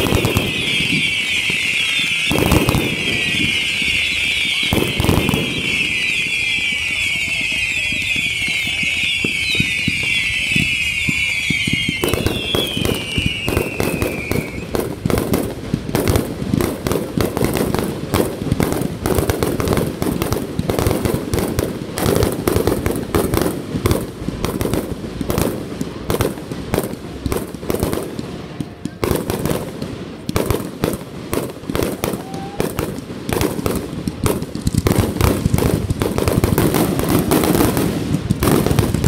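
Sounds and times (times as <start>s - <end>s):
firework crackle: 0.0s - 39.0s
whistling firework shells: 0.0s - 39.0s.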